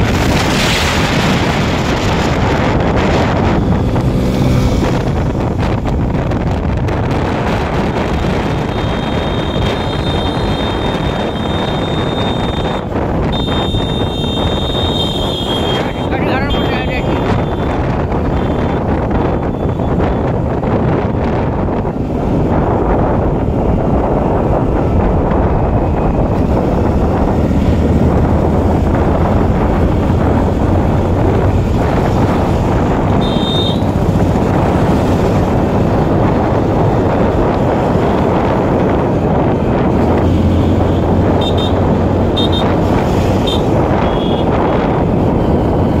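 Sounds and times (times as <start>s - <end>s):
motorcycle engine humming: 0.0s - 46.0s
wind buffeting microphone: 0.0s - 46.0s.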